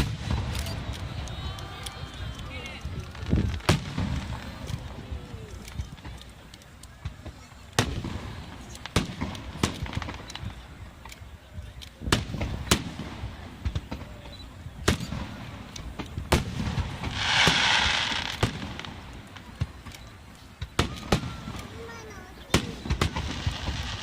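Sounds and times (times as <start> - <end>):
fireworks bangs: 0.0 - 24.0
loud fireworks hissing rush: 0.0 - 24.0.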